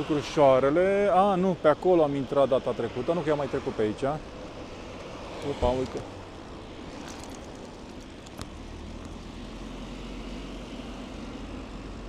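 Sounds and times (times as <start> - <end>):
road rumble: 0.0 - 12.0
wind: 0.0 - 12.0.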